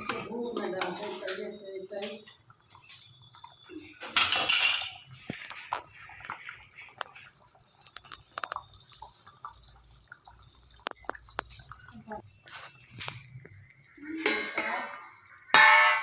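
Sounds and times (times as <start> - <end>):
kitchen utensils and pots clinking: 0.0 - 16.0.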